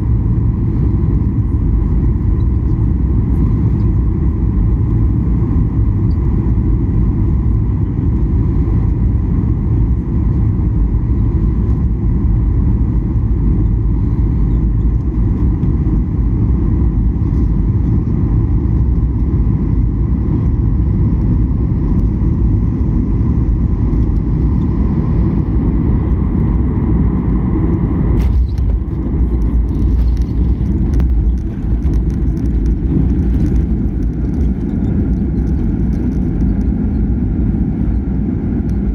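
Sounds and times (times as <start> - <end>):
jet engine whine: 0.0 - 38.9
wheels rumbling on runway: 0.0 - 38.9.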